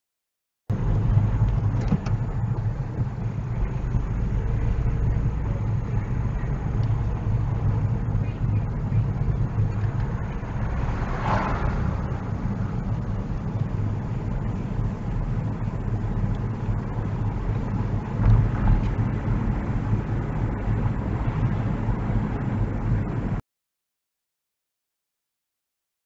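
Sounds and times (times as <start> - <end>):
car engine and road noise: 0.7 - 23.4.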